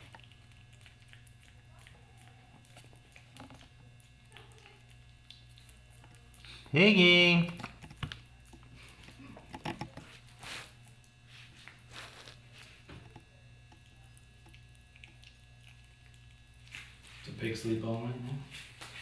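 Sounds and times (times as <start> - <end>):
low steady hum: 0.0 - 19.0
piglet chewing dry cereal: 0.0 - 19.0.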